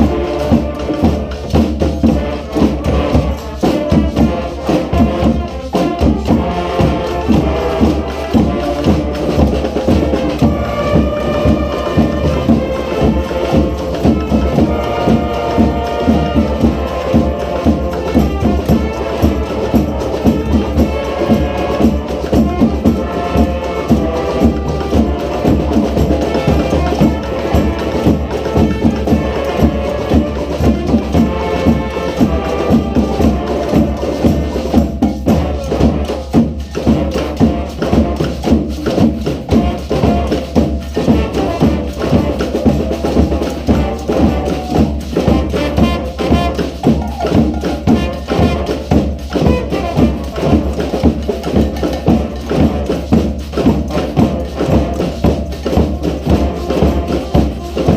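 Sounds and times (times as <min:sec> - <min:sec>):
horns playing melody: 0:00.0 - 0:57.9
percussion steady beat: 0:00.0 - 0:57.9.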